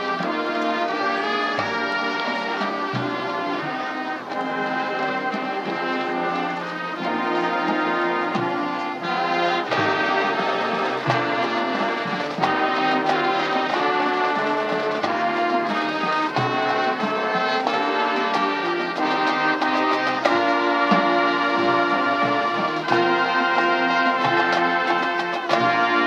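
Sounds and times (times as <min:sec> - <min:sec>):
marching band brass chords: 0:00.0 - 0:26.0
percussion hits: 0:00.0 - 0:26.0.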